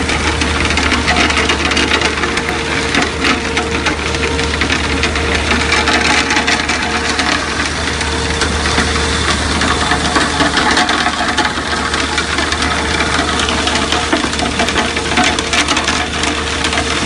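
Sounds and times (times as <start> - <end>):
rotary drum washer running: 0.0 - 17.0.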